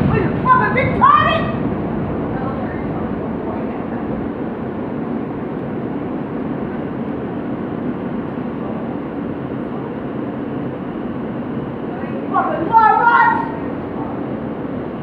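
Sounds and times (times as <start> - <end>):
subway car rumble and hum: 0.0 - 15.0.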